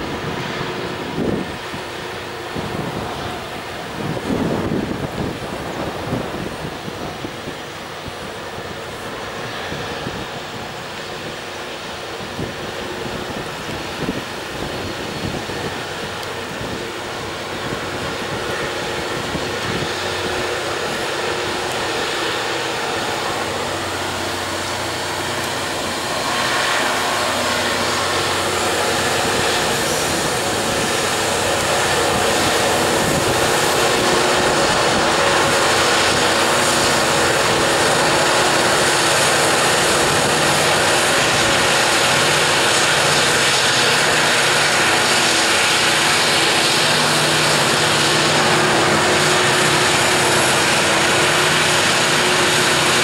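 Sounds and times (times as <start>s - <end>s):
diesel locomotive engines working hard: 0.0s - 53.0s
hopper wagons rolling on rails: 0.0s - 53.0s.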